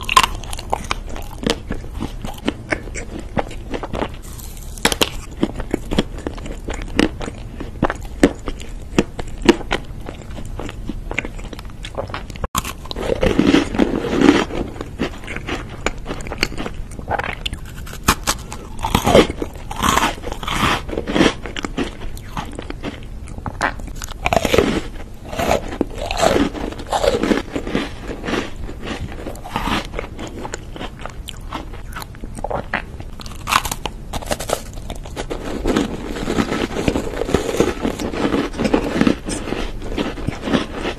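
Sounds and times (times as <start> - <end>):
crunching cookies: 0.0 - 40.9
moist chewing of cake: 0.0 - 40.9.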